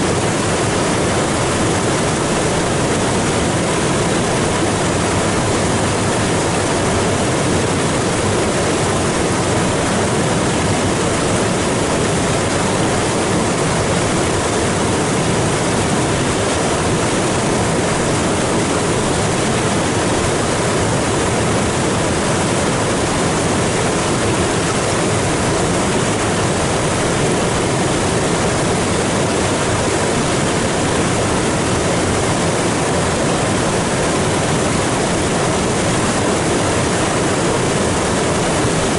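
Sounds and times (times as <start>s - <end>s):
roar of rushing floodwater: 0.0s - 38.9s.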